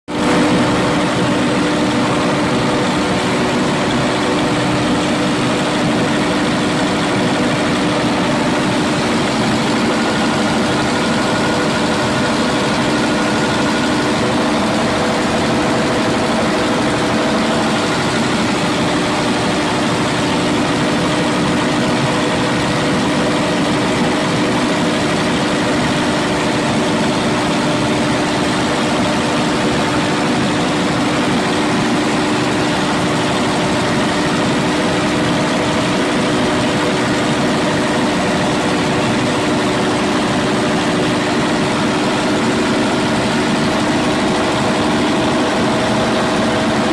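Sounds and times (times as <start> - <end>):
diesel generator engine hum: 0.2 - 46.9.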